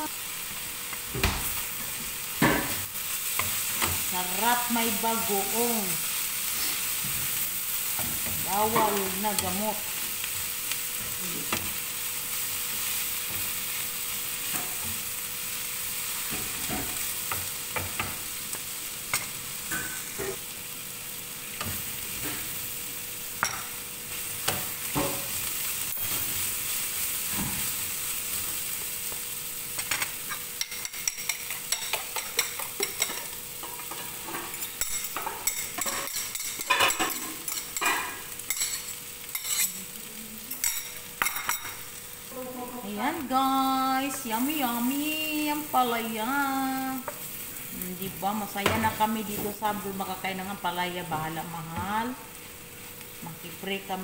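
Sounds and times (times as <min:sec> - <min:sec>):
vegetables sizzling in frying pan: 0:00.0 - 0:54.0.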